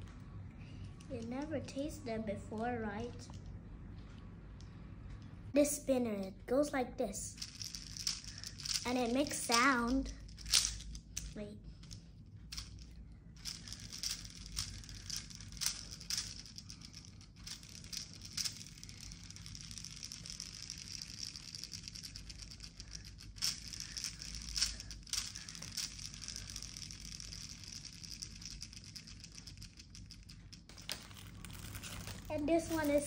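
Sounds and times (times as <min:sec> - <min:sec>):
spinner toy whirring: 0:00.8 - 0:03.5, 0:07.2 - 0:33.0.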